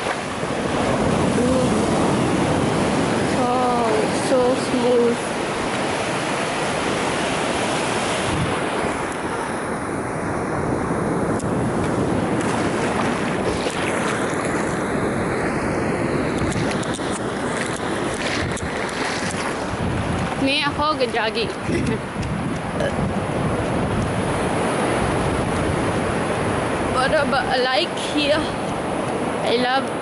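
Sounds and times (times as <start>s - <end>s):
ocean surf on beach: 0.0s - 30.0s
wind buffeting microphone: 0.0s - 30.0s.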